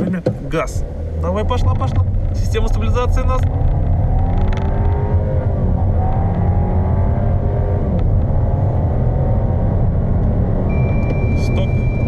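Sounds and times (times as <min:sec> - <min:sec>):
tyre and road rumble: 0:00.0 - 0:12.0
car engine accelerating: 0:00.2 - 0:12.0.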